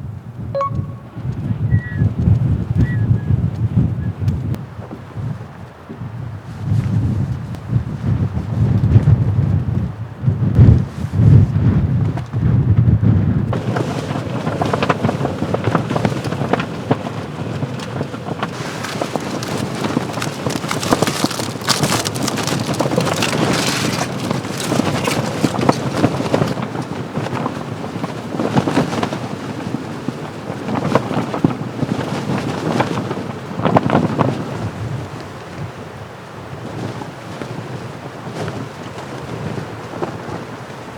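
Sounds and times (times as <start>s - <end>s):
gusting storm wind: 0.0s - 40.9s
wind rumble on microphone: 0.0s - 40.9s
tent fabric flapping: 4.4s - 40.9s.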